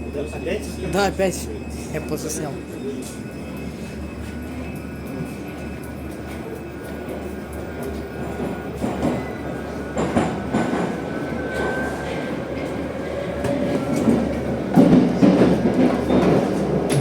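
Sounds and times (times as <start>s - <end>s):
metro train rumble: 0.0s - 17.0s
train clatter: 3.0s - 17.0s.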